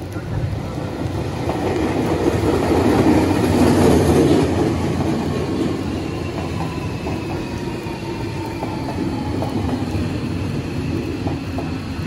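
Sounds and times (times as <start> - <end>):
electric train passing: 0.0 - 12.0
wheels rumbling on rails: 0.0 - 12.0.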